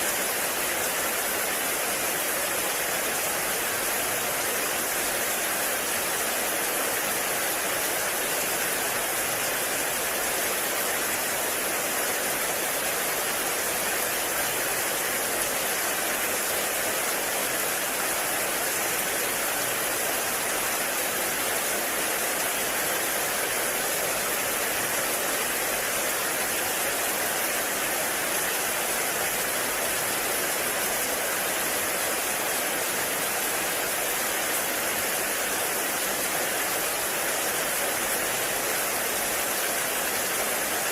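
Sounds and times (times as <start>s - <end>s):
heavy rain in a forest: 0.0s - 40.9s.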